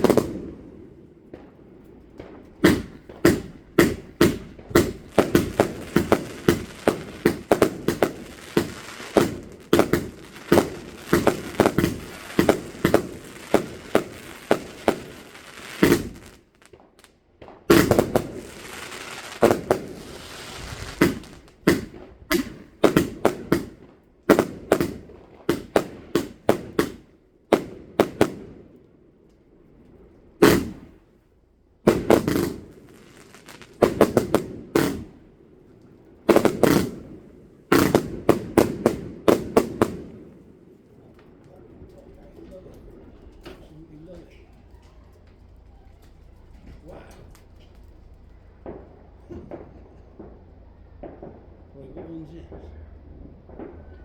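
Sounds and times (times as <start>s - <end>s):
fireworks bangs: 0.0s - 31.2s, 31.8s - 54.0s
fireworks crackle: 0.0s - 31.2s, 31.9s - 54.0s.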